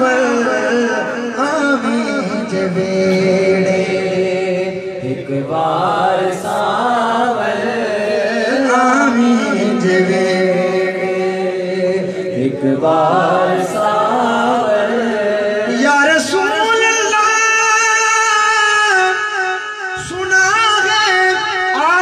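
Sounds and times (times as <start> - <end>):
man singing through a microphone: 0.0 - 22.0.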